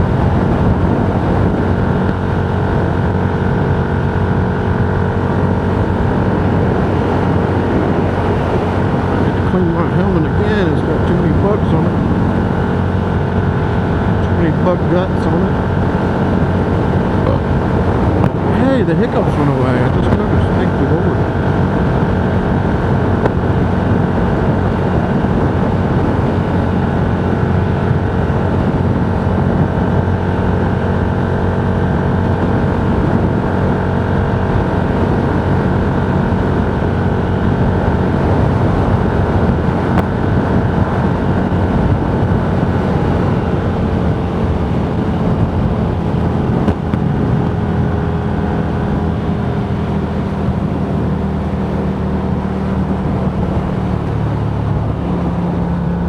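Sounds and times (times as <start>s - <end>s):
motorcycle engine cruising: 0.0s - 56.0s
wind rushing past microphone: 0.0s - 56.0s.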